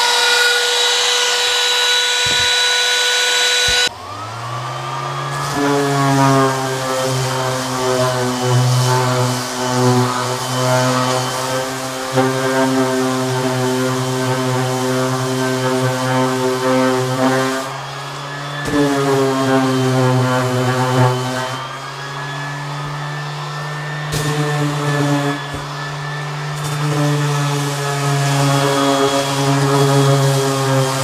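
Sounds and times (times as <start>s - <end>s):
sander motor drone: 0.0s - 31.0s.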